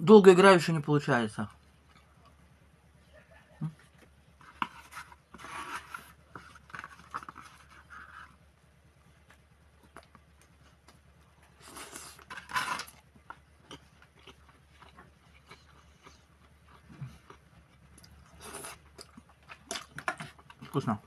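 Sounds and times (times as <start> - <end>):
soft chewing: 1.5 - 21.0.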